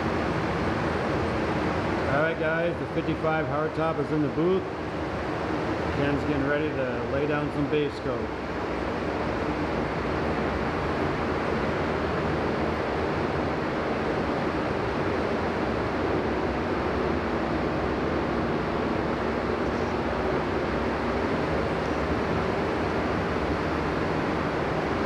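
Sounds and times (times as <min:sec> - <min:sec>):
faint hum: 0:00.0 - 0:25.0
ventilation fans rushing air: 0:00.0 - 0:25.0.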